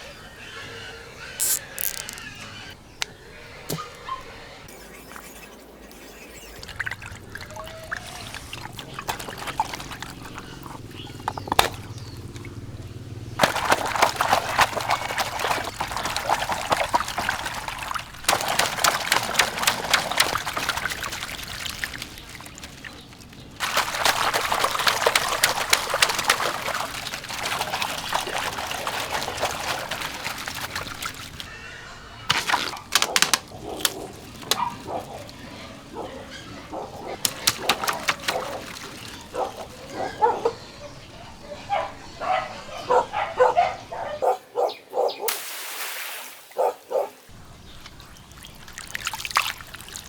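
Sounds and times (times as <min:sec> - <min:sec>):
water pouring and splashing: 0:01.3 - 0:02.7, 0:04.7 - 0:31.6, 0:32.2 - 0:40.3, 0:45.3 - 0:50.0.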